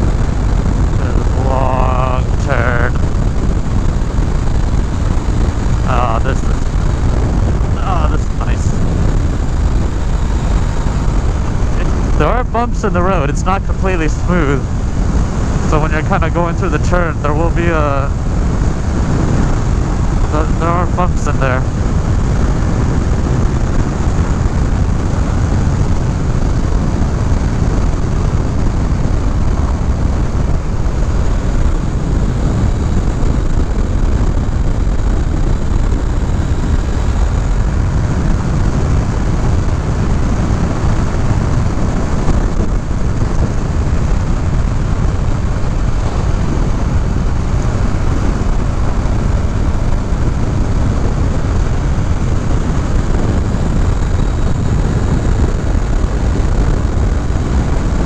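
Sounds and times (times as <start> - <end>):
motorcycle engine drone: 0.0 - 58.0
wind rushing over microphone: 0.0 - 58.0.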